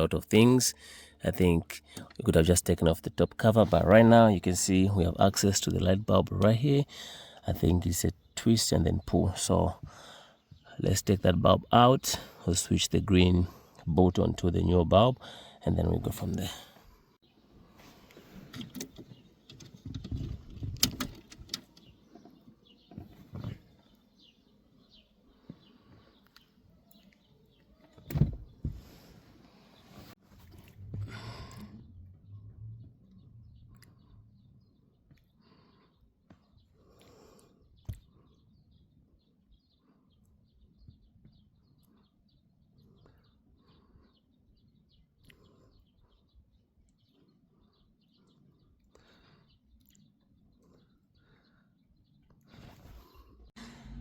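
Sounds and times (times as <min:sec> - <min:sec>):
faint birds chirping: 0:00.0 - 0:54.0.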